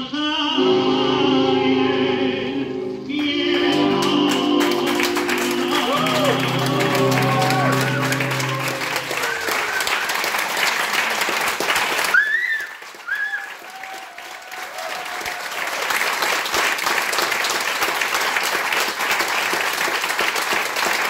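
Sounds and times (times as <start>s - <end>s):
audience applauding: 3.1s - 21.0s.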